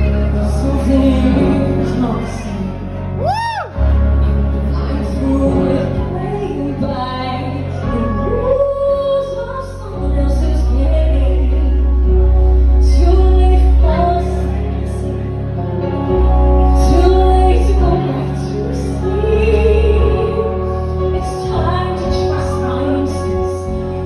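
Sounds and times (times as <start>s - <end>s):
woman singing into microphone: 0.0s - 3.2s, 4.5s - 15.3s, 16.6s - 24.0s
amplified accompaniment with deep bass: 0.0s - 24.0s.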